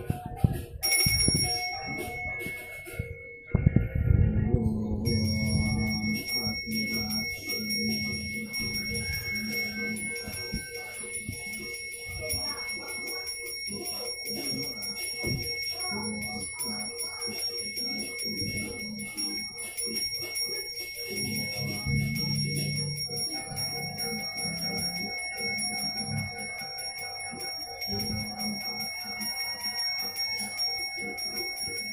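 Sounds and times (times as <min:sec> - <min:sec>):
brass hand bell ringing: 0:00.8 - 0:03.7, 0:05.0 - 0:31.9.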